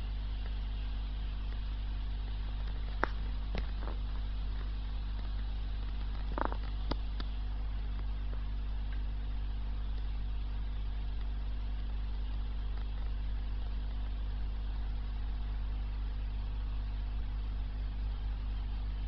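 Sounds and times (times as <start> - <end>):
aquarium equipment humming: 0.0 - 19.0.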